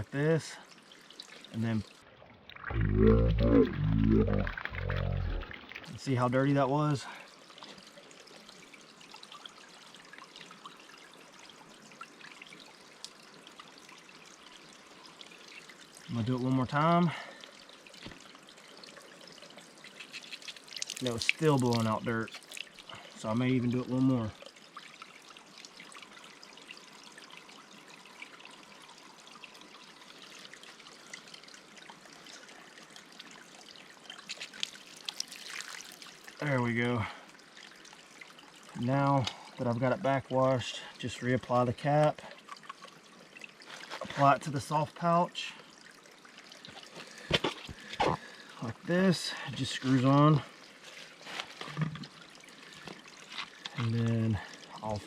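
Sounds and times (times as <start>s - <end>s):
faint water trickling: 0.0s - 55.0s
water drips: 0.5s - 55.0s.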